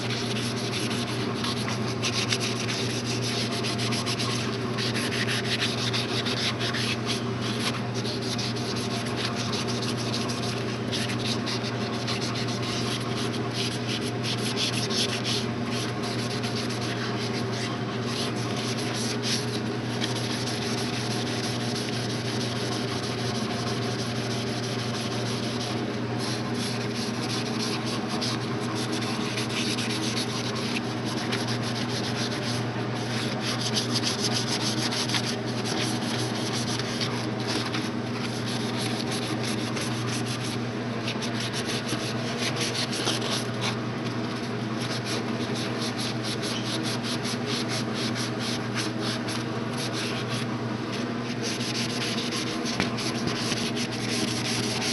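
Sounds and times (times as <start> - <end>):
sponge scrubbing metal handle: 0.0 - 54.9.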